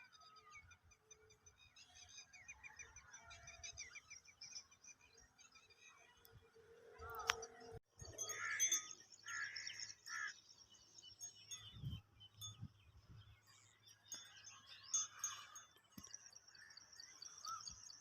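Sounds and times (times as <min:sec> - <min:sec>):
birds calling and chirping: 0:00.0 - 0:18.0.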